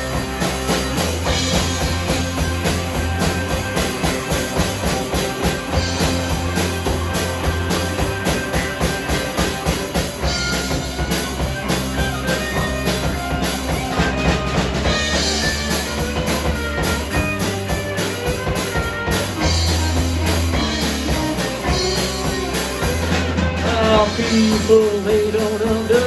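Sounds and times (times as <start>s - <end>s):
drum kit beat: 0.0s - 26.0s
electric guitar and bass: 0.0s - 26.0s.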